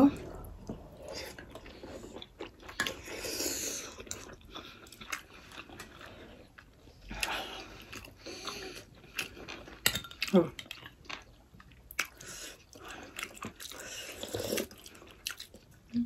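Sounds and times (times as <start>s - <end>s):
wet chewing: 0.2s - 15.9s.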